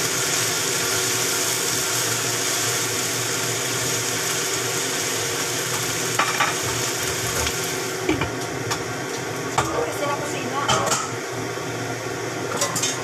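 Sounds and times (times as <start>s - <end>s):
cabbage sizzling in a wok: 0.0s - 13.0s.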